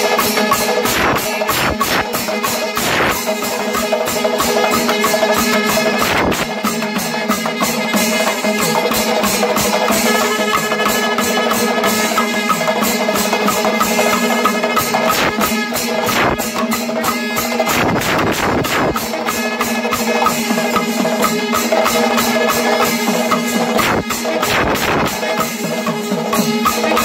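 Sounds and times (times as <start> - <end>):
cymbals: 0.0 - 27.0
rapid drum strokes: 0.0 - 27.0.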